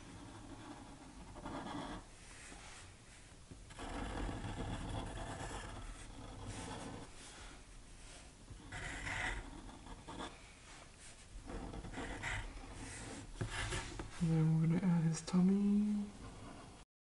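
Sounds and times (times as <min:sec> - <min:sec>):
marker and pencil scratching paper: 0:00.0 - 0:14.2.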